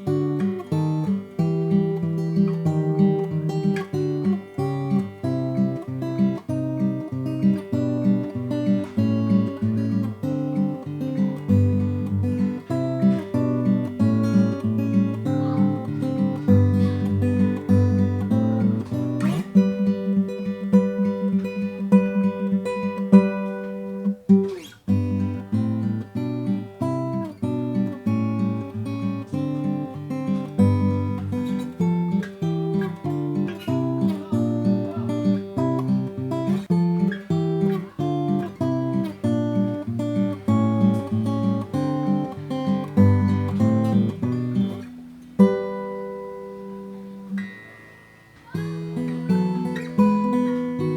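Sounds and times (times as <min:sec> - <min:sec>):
acoustic guitar playing chords: 0:00.0 - 0:50.9.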